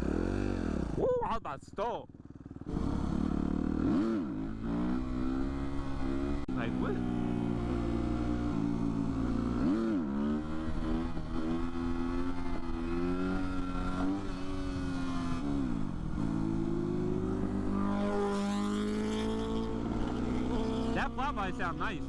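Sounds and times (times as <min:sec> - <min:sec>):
motorcycle passing by: 0:00.0 - 0:01.1, 0:02.2 - 0:22.0
motorcycle engine accelerating: 0:00.0 - 0:01.2, 0:01.8 - 0:22.0.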